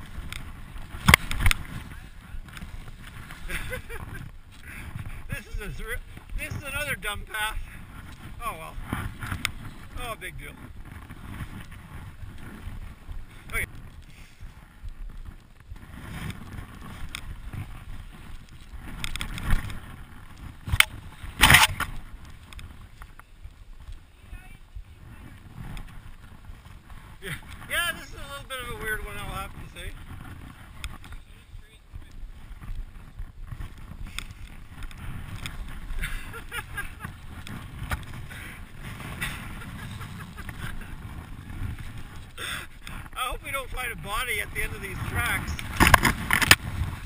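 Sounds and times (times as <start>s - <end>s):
branches scraping and knocking: 0.0s - 47.0s
skis sliding through snow: 0.0s - 47.0s
wind rumble on microphone: 0.0s - 47.0s.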